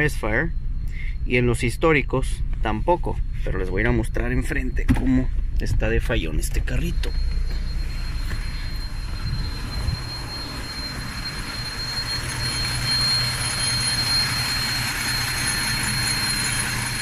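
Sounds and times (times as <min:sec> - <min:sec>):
thin high whine: 0:00.0 - 0:17.0
misfiring engine idling: 0:02.0 - 0:17.0.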